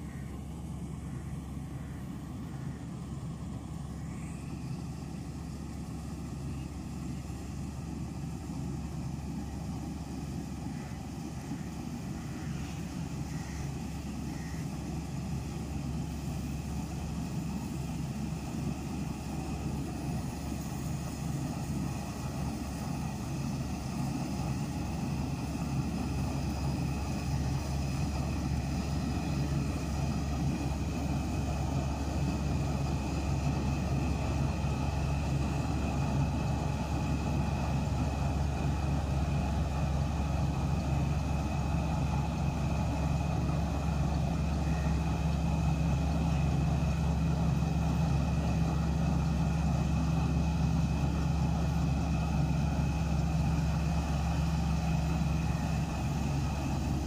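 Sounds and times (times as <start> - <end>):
combine harvester engine droning: 0.0 - 57.0
thin high machinery whines: 0.0 - 57.0.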